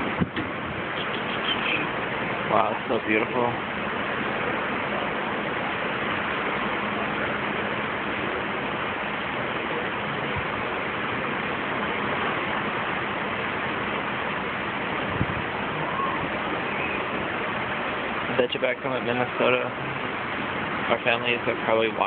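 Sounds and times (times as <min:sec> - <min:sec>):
wind and sea water rushing: 0:00.0 - 0:22.0.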